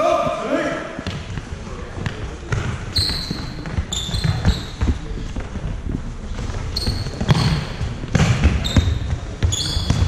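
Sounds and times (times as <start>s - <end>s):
sneakers squeaking on floor: 0.0s - 5.5s, 6.3s - 10.0s
feet on the court: 0.0s - 10.0s.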